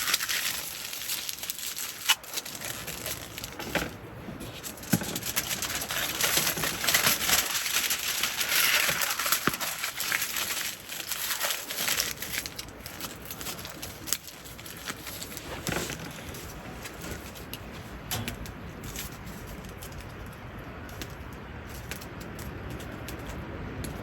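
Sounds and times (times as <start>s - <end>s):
crinkling and rustling: 0.0s - 24.0s.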